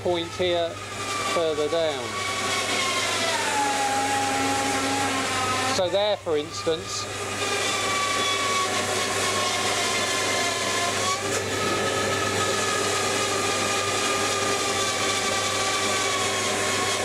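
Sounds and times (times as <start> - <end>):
power tool motor whine: 0.0 - 17.0.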